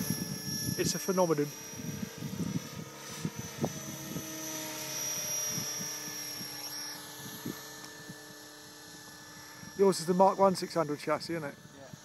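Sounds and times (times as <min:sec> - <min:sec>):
helicopter motor whine: 0:00.0 - 0:12.0
low rotor hum: 0:00.0 - 0:12.0.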